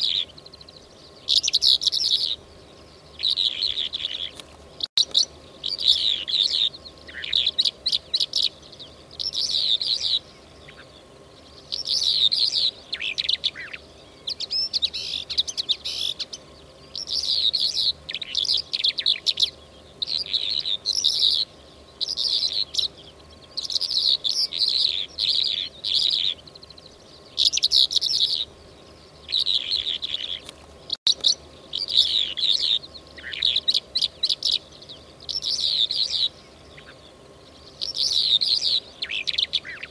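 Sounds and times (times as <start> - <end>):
lark chirping: 0.0 - 39.9.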